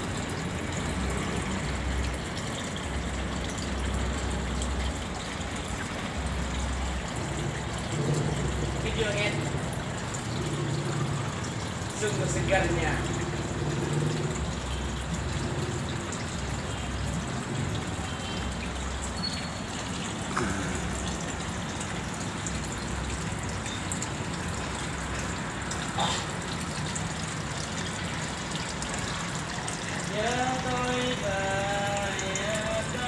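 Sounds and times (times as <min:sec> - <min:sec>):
water streams splashing into pond: 0:00.0 - 0:33.0.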